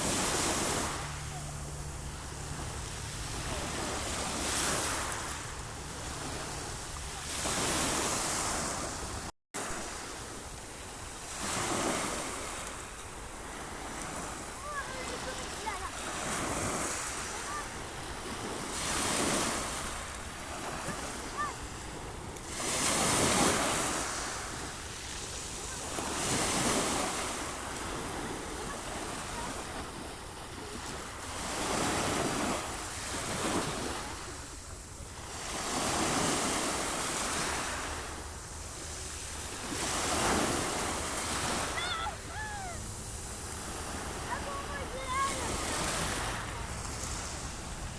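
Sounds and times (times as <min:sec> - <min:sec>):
sea waves breaking on shore: 0:00.0 - 0:47.9.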